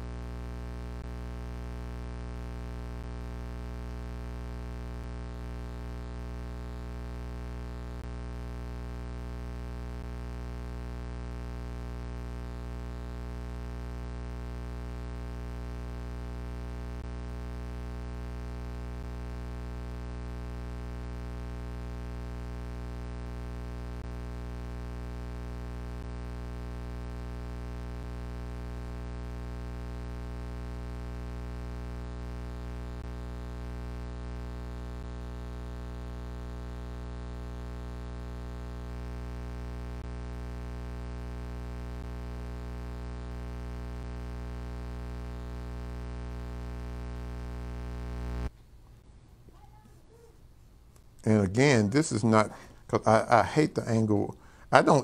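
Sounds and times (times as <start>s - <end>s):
low hum: 0.0s - 49.5s.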